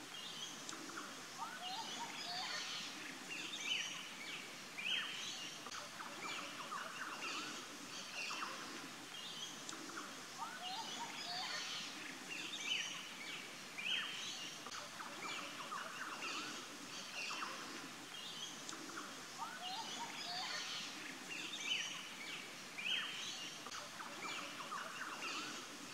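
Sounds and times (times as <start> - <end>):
birds chirping and trilling: 0.0 - 25.9
steady outdoor hiss: 0.0 - 25.9.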